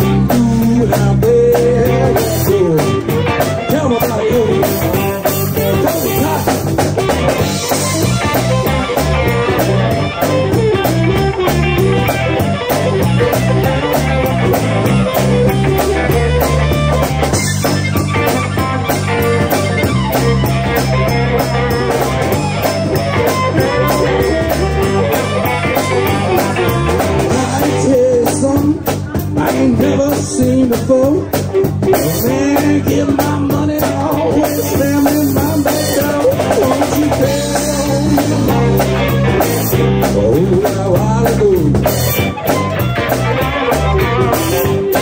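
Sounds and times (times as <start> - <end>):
bass guitar: 0.0 - 45.0
drum kit: 0.0 - 45.0
electric guitar: 0.0 - 45.0.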